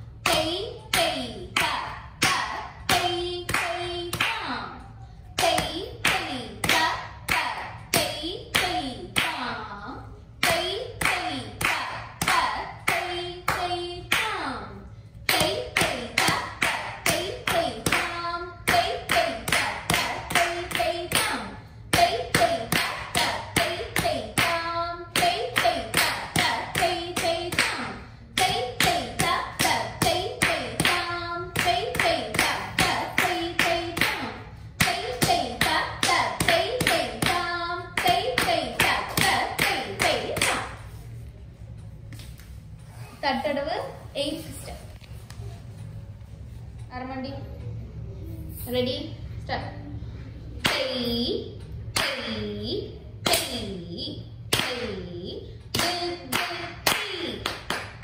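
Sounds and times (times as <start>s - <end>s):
person chanting rhythm syllables: 0.0s - 41.1s, 49.8s - 58.0s.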